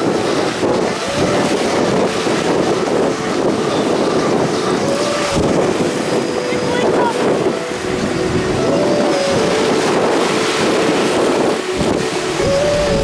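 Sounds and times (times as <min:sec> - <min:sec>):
ocean surf rushing: 0:00.0 - 0:13.0
wind buffeting microphone: 0:00.0 - 0:13.0.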